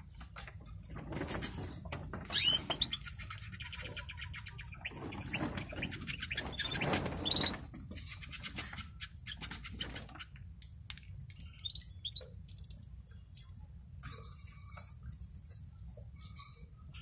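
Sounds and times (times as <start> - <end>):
birds moving in wire cage: 0.1 - 17.0.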